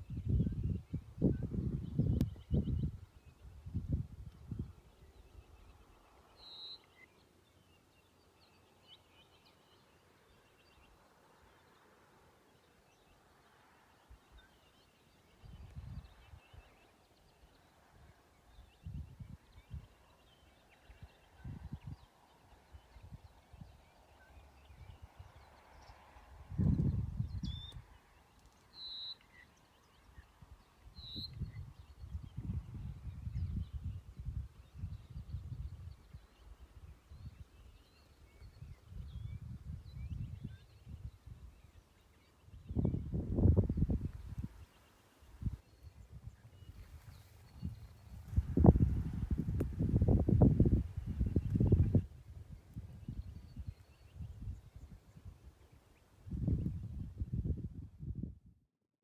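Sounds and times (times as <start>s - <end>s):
faint bird chirps: 0.0s - 50.1s.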